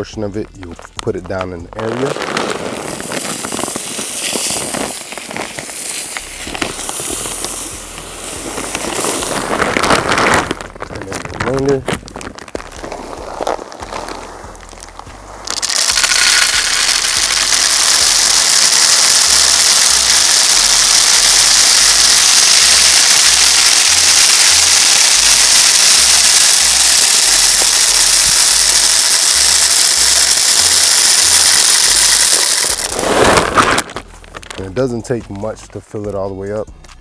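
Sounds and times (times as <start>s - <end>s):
grain pouring into a pipe: 1.8s - 35.2s.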